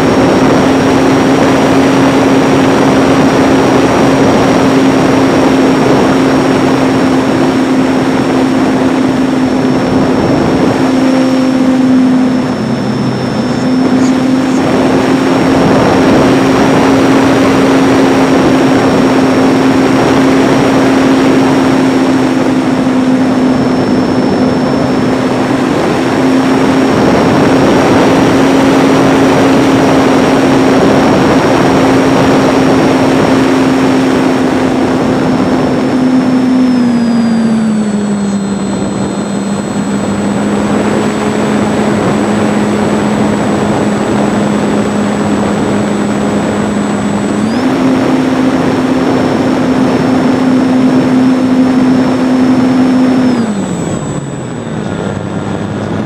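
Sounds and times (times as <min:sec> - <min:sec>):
electric motor and propeller droning: 0:00.0 - 0:56.0
wind rush on microphone: 0:00.0 - 0:56.0.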